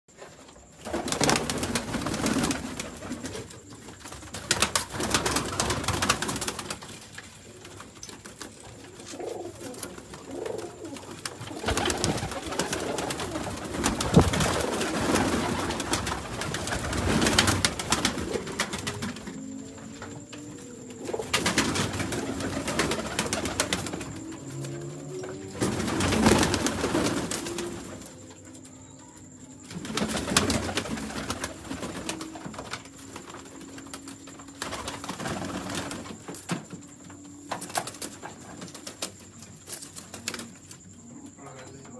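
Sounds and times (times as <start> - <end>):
wings flapping and scuffling: 0.2 - 28.7, 29.4 - 41.0
pigeons cooing: 0.8 - 41.2.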